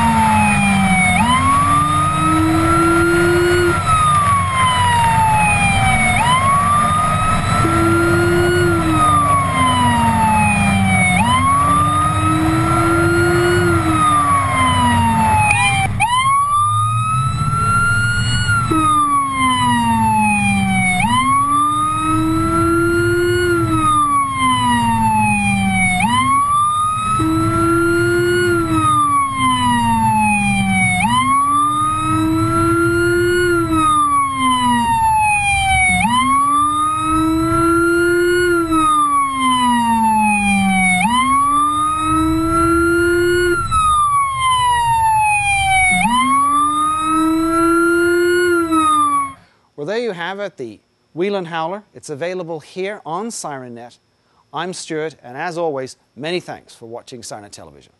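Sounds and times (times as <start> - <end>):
deep low-frequency siren tone: 0.0 - 49.5
electronic siren wailing: 0.0 - 49.5
road and engine noise: 0.0 - 49.8.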